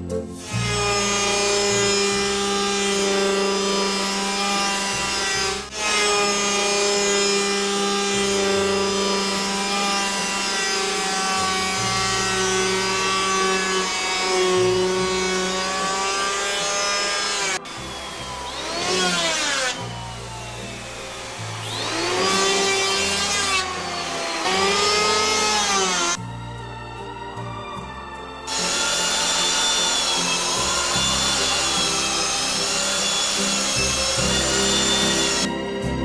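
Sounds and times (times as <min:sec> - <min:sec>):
power tool whining on wood: 0:00.4 - 0:26.3, 0:28.4 - 0:35.5.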